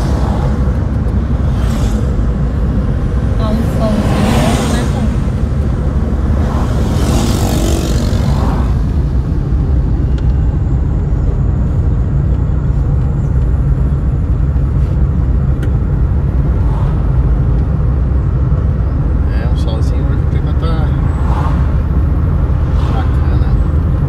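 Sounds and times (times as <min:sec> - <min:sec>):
car cabin road rumble: 0:00.0 - 0:24.0
oncoming traffic passing: 0:00.0 - 0:24.0.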